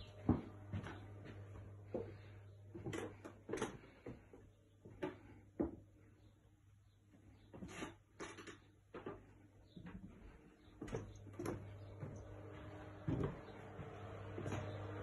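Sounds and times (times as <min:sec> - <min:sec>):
low steady hum: 0:00.0 - 0:07.4, 0:09.0 - 0:15.0
footsteps in a house: 0:00.0 - 0:15.0.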